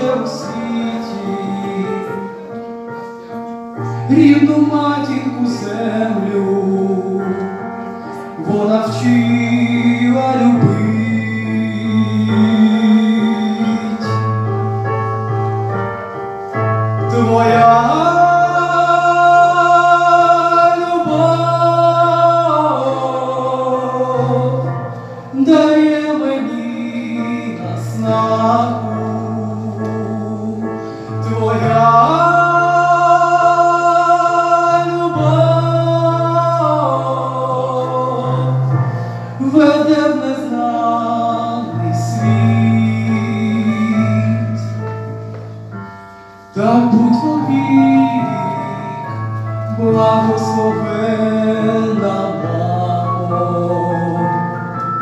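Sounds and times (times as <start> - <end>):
person singing a slow ballad: 0.0 - 55.0
recorded backing track: 0.0 - 55.0.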